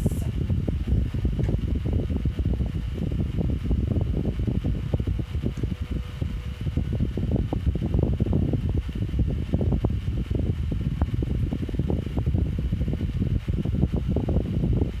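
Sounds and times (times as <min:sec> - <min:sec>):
desk fan rumbling and whining: 0:00.0 - 0:15.0.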